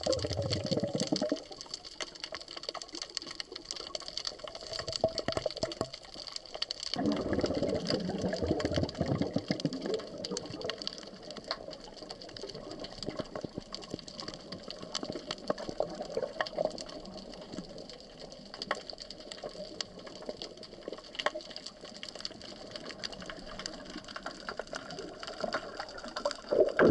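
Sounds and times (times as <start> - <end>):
underwater crackle of fine clicks: 0.0 - 26.9.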